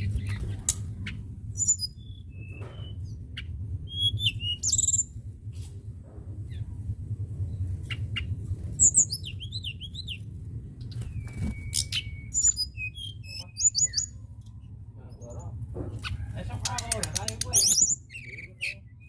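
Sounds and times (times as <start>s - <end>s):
songbirds chirping and trilling: 0.0s - 19.0s
steady low rumble: 0.0s - 19.0s.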